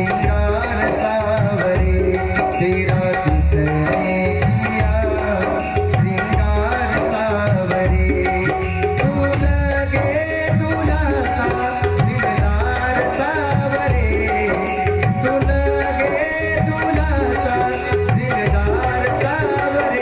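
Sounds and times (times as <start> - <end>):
hand drum rhythm with deep bass: 0.0 - 20.0
wavering melody instrument: 0.0 - 20.0.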